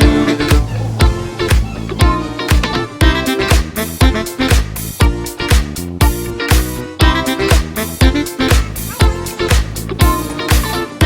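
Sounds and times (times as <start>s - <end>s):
dance music with kick drum: 0.0s - 11.0s.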